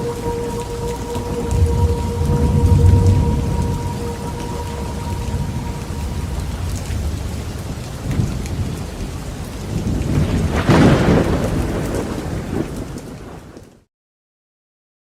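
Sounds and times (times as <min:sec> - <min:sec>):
thunder rumbling: 0:00.0 - 0:13.8
heavy rain: 0:00.0 - 0:13.9.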